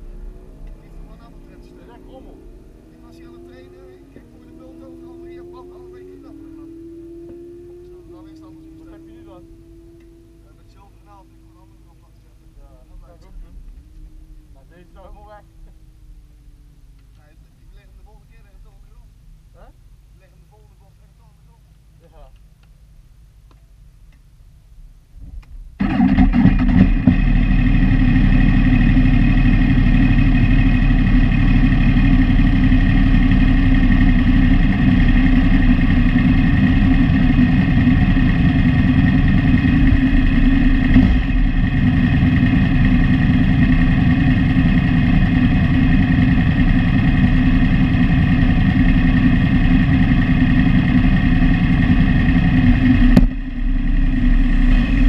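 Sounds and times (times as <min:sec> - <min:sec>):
motorcycle engine starting and running: 0:00.0 - 0:19.4, 0:25.4 - 0:55.0.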